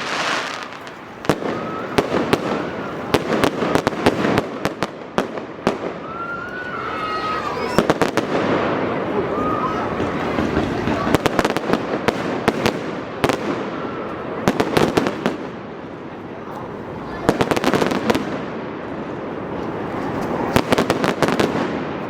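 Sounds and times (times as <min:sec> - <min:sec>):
background hubbub: 0:00.0 - 0:22.0
fireworks bangs and crackles: 0:00.0 - 0:22.0.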